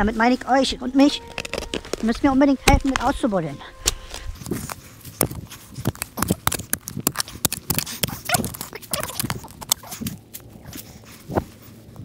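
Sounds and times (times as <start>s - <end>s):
crunching dry leaf litter: 1.1s - 3.2s, 3.8s - 12.0s
hand spade digging into soil: 1.2s - 3.2s, 3.8s - 11.5s.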